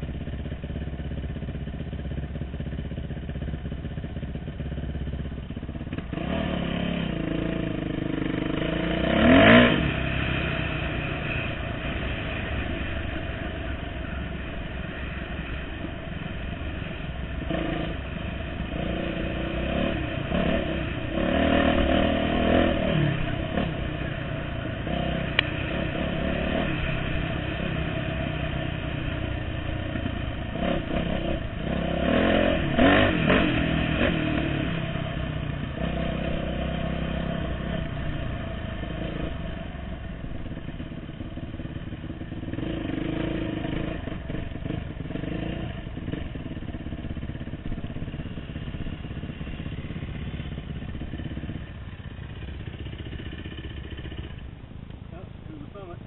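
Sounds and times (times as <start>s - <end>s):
dirt bike engine revving: 5.8s - 54.5s.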